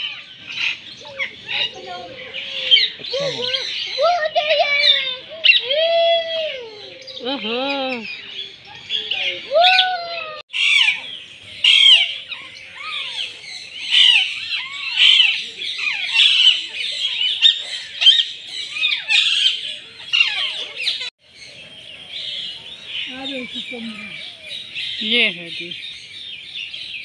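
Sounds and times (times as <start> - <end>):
caged birds chirping and squawking: 0.0 - 27.0.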